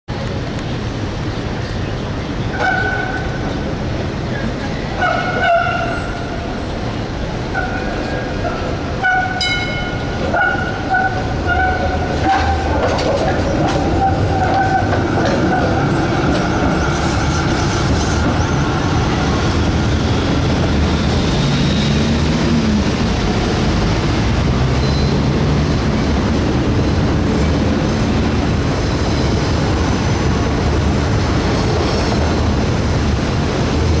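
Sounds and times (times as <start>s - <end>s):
trams rumbling along track: 0.1s - 34.0s
tram wheels squealing: 1.6s - 34.0s.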